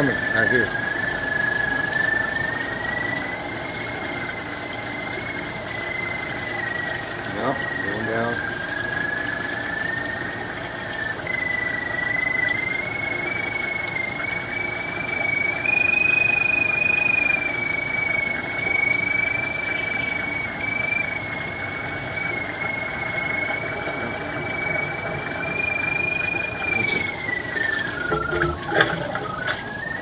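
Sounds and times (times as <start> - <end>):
pipe locator whistle tone: 0.0 - 30.0.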